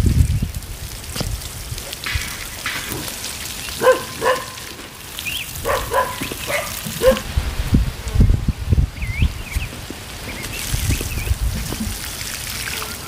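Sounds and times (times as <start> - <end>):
water pattering from watering can: 0.0 - 7.6, 9.1 - 13.0.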